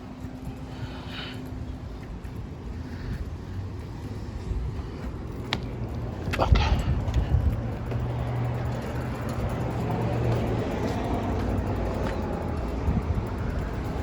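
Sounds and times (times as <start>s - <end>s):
street noise: 0.0s - 14.0s
vehicle engine running: 0.0s - 14.0s.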